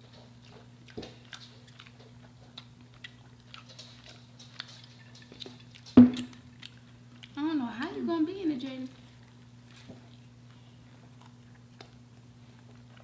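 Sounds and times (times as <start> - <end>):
chewing crispy food: 0.0 - 13.0
low steady hum: 0.0 - 13.0.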